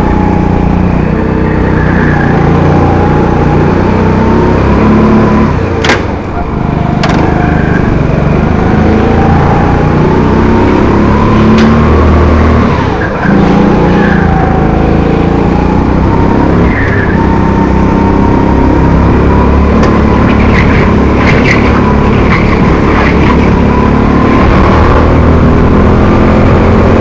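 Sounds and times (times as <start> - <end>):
kart engine running hard: 0.0 - 27.0.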